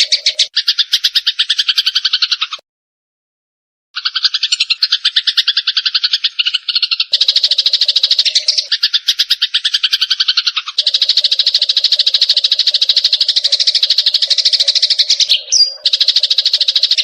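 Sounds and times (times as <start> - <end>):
sparrows chattering: 0.0 - 2.6, 4.0 - 17.0.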